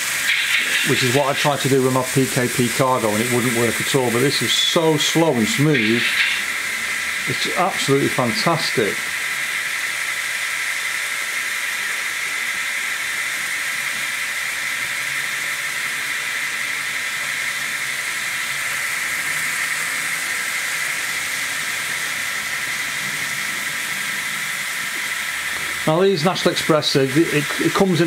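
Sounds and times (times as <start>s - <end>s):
model train running sound: 0.0s - 28.0s.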